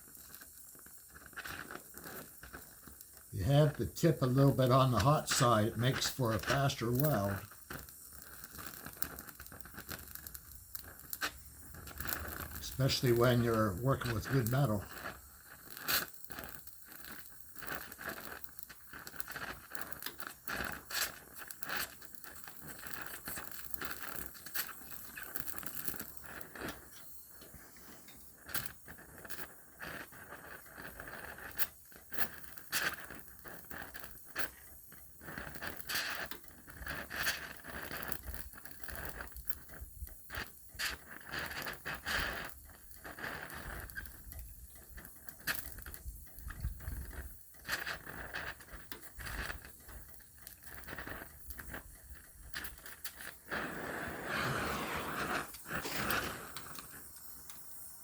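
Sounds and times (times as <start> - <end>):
welding hiss and crackling: 0.0 - 58.0.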